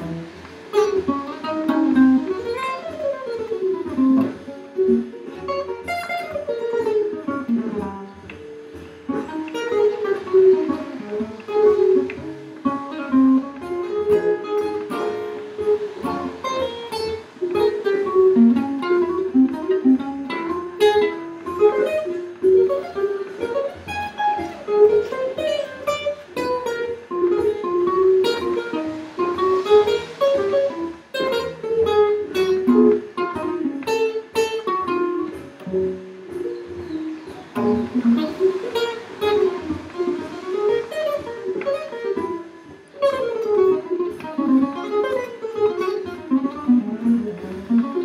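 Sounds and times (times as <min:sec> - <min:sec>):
jazz guitar solo: 0:00.0 - 0:48.0.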